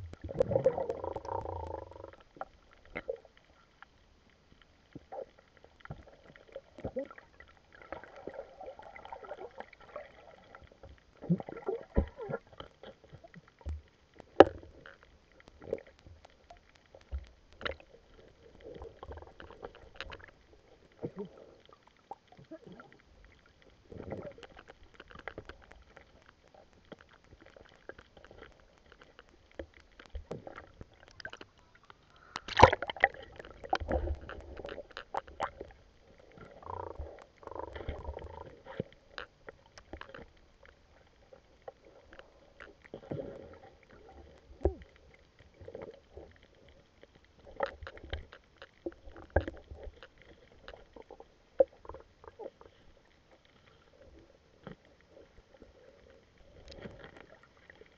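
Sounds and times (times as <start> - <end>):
muffled water sloshing underwater: 0.0 - 57.9.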